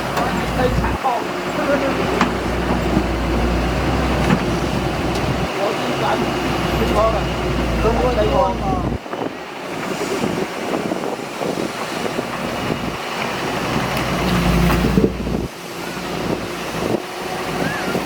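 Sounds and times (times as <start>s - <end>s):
heavy machinery diesel engine rumble: 0.0s - 18.0s.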